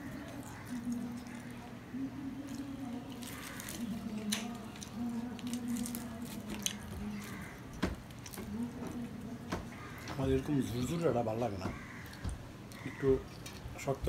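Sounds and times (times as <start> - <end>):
chewing bread: 0.0 - 13.8.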